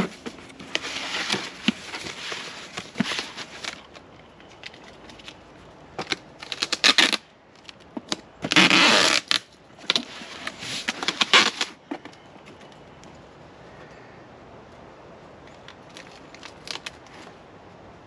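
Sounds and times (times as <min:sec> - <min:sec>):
crinkly rustles: 0:00.0 - 0:13.2, 0:15.4 - 0:17.4.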